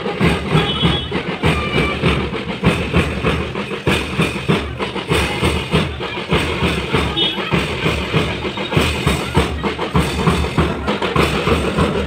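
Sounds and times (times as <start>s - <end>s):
marching bass drums beating: 0.0s - 12.0s.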